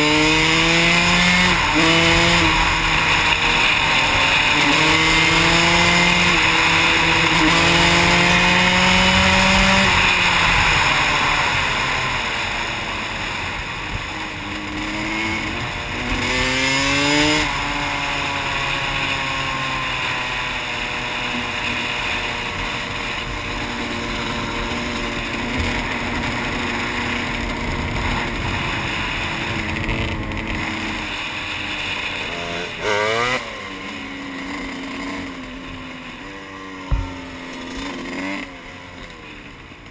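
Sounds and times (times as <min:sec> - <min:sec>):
two-stroke motorbike engine revving: 0:00.0 - 0:39.9.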